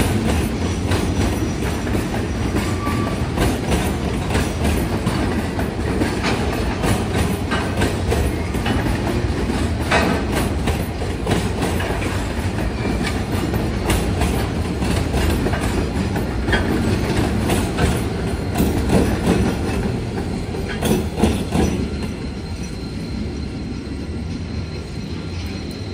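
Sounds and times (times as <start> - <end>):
wheels clacking over rail joints: 0.0 - 22.1
train wagons rumbling: 0.0 - 25.9.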